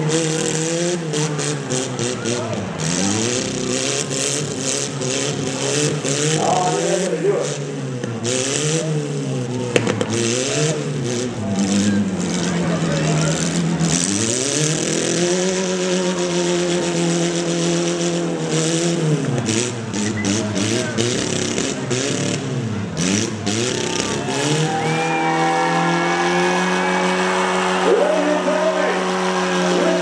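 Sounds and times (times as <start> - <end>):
car engines revving hard: 0.0 - 30.0.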